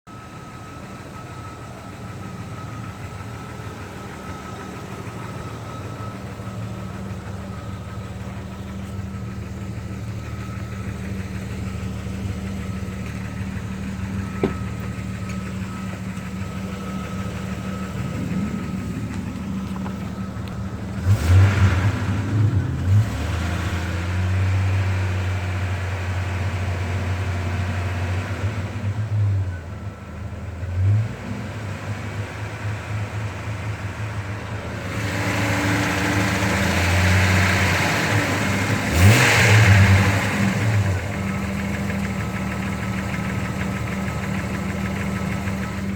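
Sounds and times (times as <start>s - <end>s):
car engine idling and revving: 0.1s - 45.9s.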